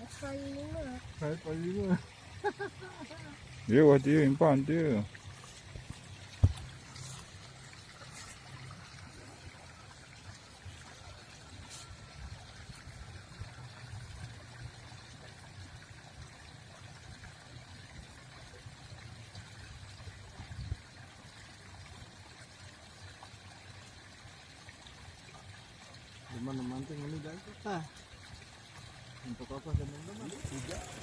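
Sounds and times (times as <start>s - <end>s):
faint trickle of running water: 0.0s - 31.0s.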